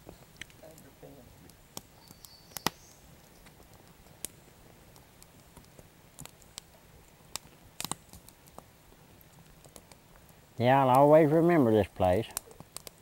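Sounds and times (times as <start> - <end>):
sharp clicks and crackles: 0.0 - 11.1, 12.0 - 13.0
low steady background: 0.0 - 13.0.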